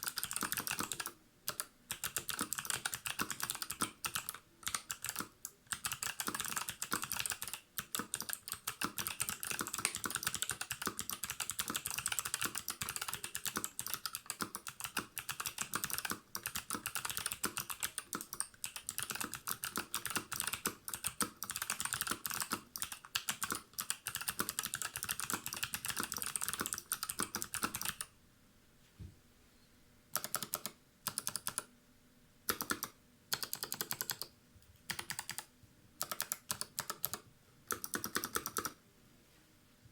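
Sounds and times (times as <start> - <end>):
mechanical keyboard typing: 0.0 - 28.1, 30.2 - 31.7, 32.5 - 34.3, 34.9 - 38.8.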